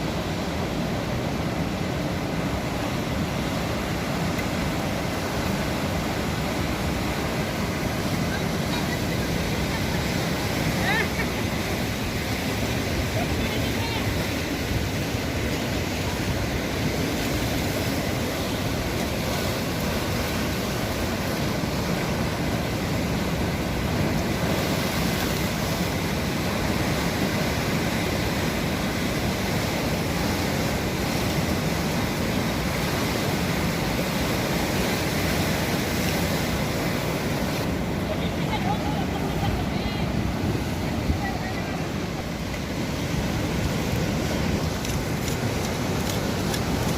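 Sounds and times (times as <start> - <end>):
sea surf washing in: 0.0 - 46.9.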